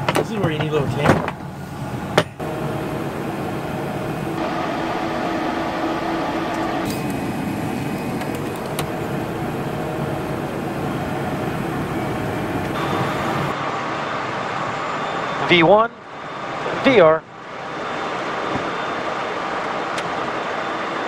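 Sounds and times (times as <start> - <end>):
jet engines at takeoff power: 1.3 - 21.0.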